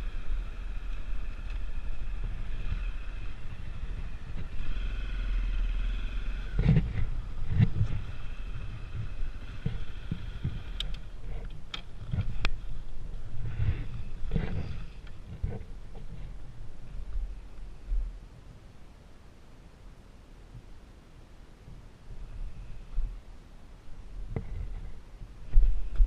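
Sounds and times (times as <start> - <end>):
vehicle rumbling with faint whine: 0.0 - 26.0.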